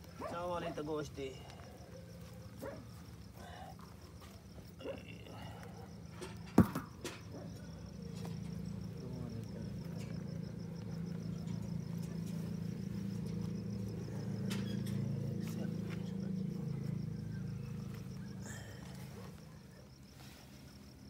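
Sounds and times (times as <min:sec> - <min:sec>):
insect trilling: 0:00.0 - 0:06.2, 0:07.5 - 0:21.0
low engine-like hum: 0:01.3 - 0:21.0.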